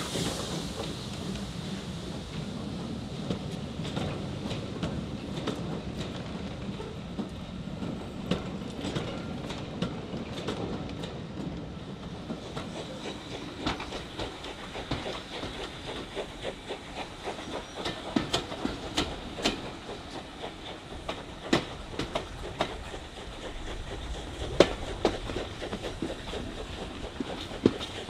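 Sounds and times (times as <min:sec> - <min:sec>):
train coaches rumbling: 0:00.0 - 0:28.0.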